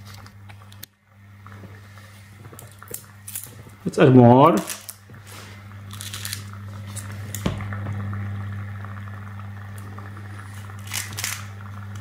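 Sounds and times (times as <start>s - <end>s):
water heater humming: 0.0s - 12.0s.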